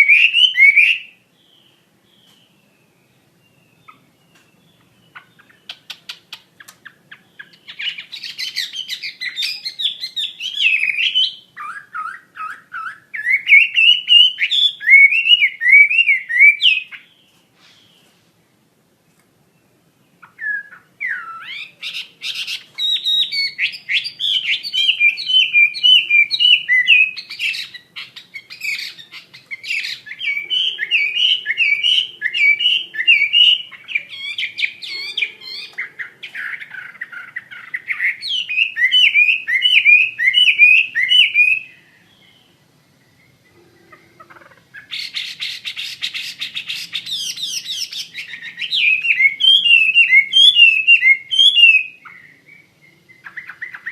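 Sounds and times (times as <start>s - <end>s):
bird singing whistled song: 0.0s - 18.1s, 19.6s - 43.6s, 44.8s - 53.9s.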